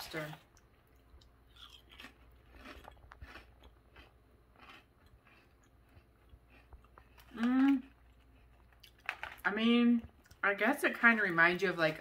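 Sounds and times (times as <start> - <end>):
chewing crunchy chips: 0.0 - 11.4.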